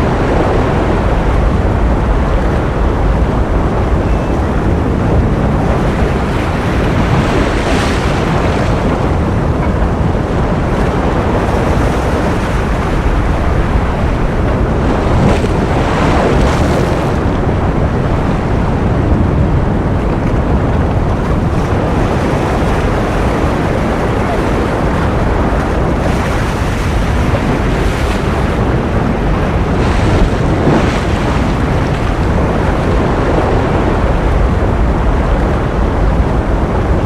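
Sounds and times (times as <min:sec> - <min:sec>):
ocean surf: 0:00.0 - 0:37.0.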